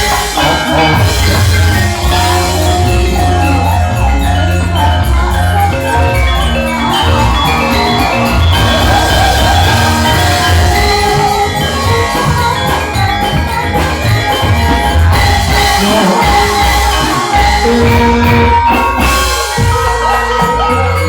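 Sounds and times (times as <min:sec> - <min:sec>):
metallophone notes ringing: 0:00.0 - 0:21.0
steady drum beat: 0:00.0 - 0:21.0.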